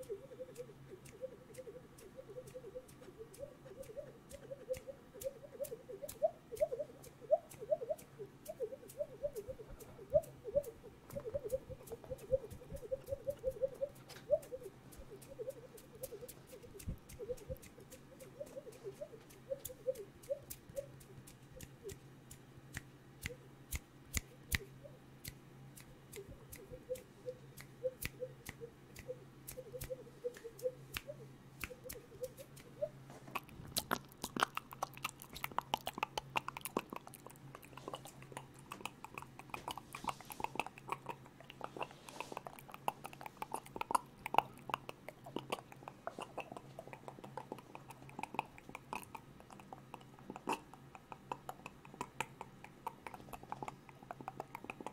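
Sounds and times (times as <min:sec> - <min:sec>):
mouth clicks and smacking: 0:00.0 - 0:54.9.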